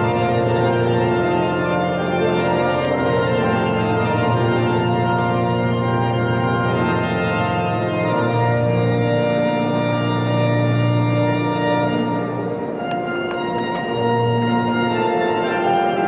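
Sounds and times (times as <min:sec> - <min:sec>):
church organ playing chords: 0:00.0 - 0:16.0.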